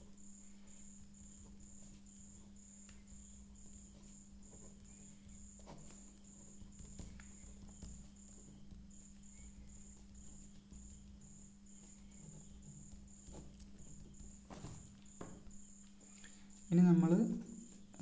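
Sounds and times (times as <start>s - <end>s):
cricket chirping: 0.0s - 18.0s
steady low hum: 0.0s - 18.0s.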